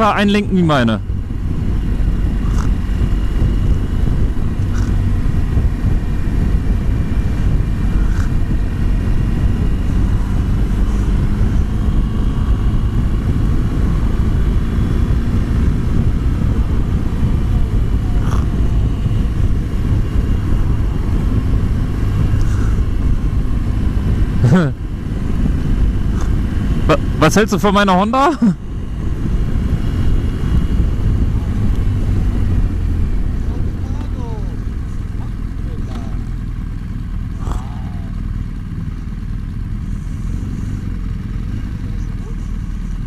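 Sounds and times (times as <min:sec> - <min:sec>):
motorcycle engine and wind roar: 0:00.0 - 0:43.0.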